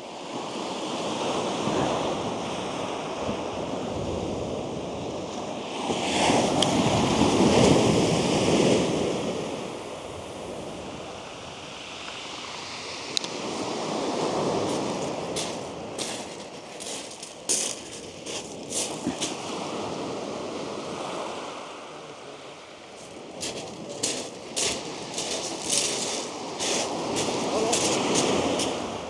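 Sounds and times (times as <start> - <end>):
waves breaking on shingle beach: 0.0 - 29.0.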